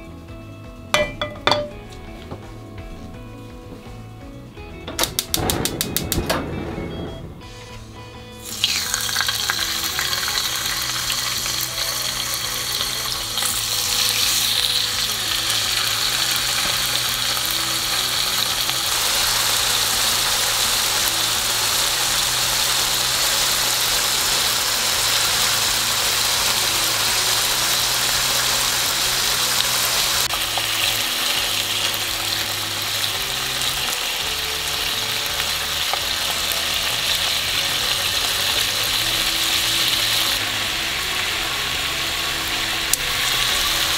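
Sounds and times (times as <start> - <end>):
meat sizzling in a frying pan: 8.4 - 43.9.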